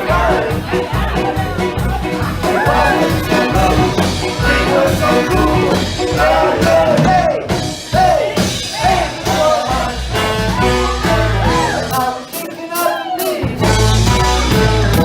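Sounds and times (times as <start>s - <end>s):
lead vocal singing: 0.0s - 15.0s
polka band playing: 0.0s - 15.0s.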